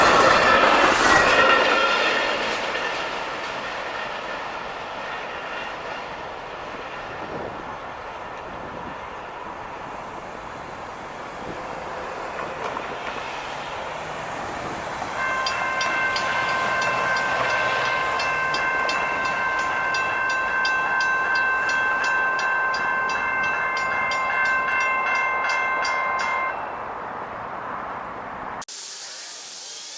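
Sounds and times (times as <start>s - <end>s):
train rushing rumble: 0.0s - 28.6s.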